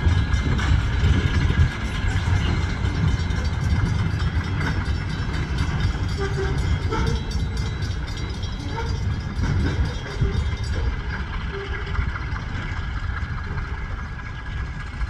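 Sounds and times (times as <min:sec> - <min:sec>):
train rumbling on rails: 0:00.0 - 0:15.0
train wheel clicks: 0:00.0 - 0:15.0.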